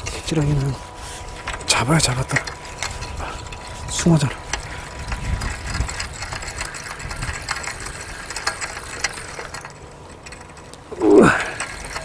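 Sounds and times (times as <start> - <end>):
fishing reel whirring and clicking: 1.4 - 12.0.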